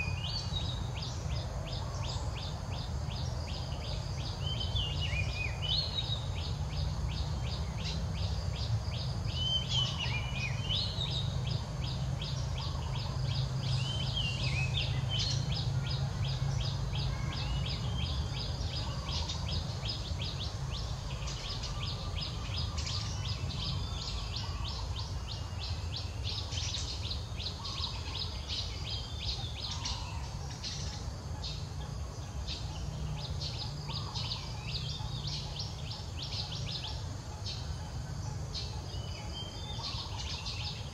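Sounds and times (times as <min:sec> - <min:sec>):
birds chirping: 0:00.0 - 0:40.9
warbling bird calls: 0:00.0 - 0:40.9.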